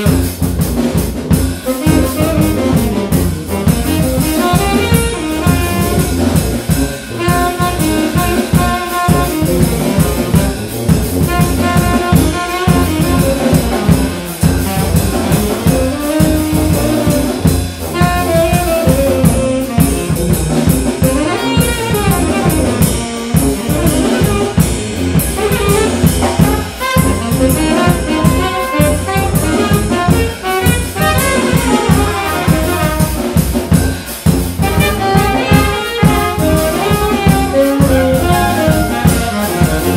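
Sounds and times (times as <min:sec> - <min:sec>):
brass band playing: 0:00.0 - 0:39.9
drum kit beat: 0:00.0 - 0:39.9.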